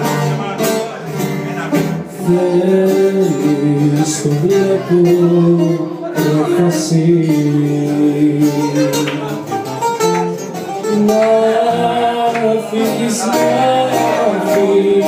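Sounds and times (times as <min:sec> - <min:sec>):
man singing: 0:00.0 - 0:09.8, 0:10.6 - 0:15.0
acoustic guitar: 0:00.0 - 0:15.0
bouzouki: 0:00.0 - 0:15.0.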